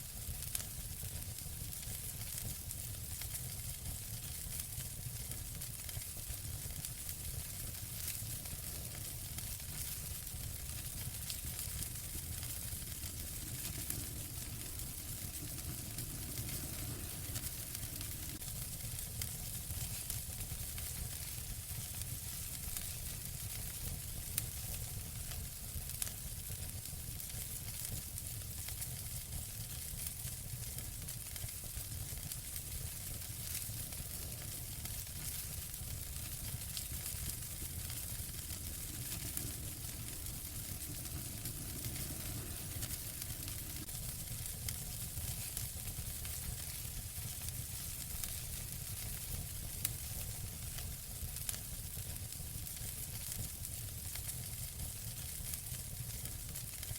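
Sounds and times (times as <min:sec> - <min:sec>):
fireplace fire crackling: 0:00.0 - 0:56.9.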